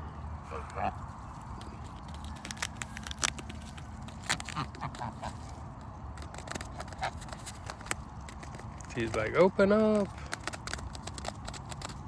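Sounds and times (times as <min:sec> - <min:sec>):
geese pecking taps: 0:00.6 - 0:12.0.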